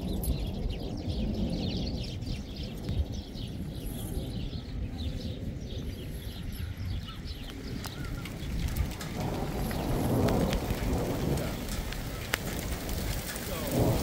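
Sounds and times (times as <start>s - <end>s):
birds chirping: 0.0s - 14.0s
low storm rumble: 0.0s - 14.0s.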